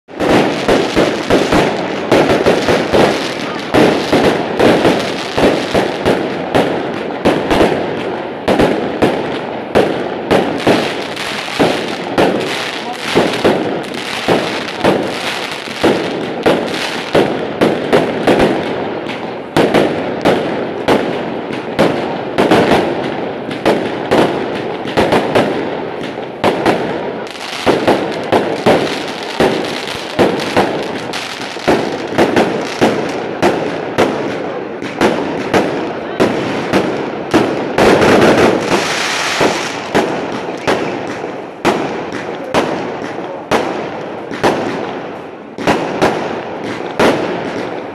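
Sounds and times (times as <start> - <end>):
fireworks bangs: 0.1 - 47.9
fireworks crackling: 0.1 - 47.9.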